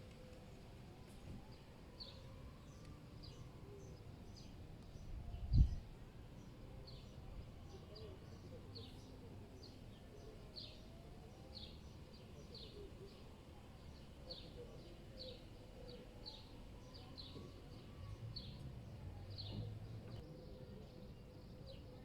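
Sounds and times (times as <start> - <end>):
faint low city rumble: 0.0 - 22.0.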